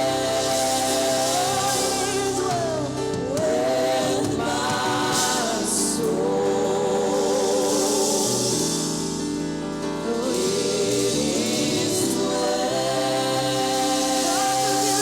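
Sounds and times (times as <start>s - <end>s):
voices singing gospel in harmony: 0.0s - 15.0s.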